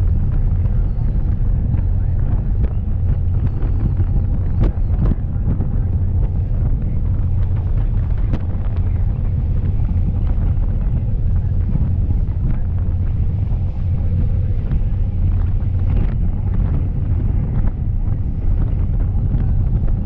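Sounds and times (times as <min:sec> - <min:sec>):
boat engine: 0:00.0 - 0:20.0
wind buffeting microphone: 0:00.0 - 0:20.0.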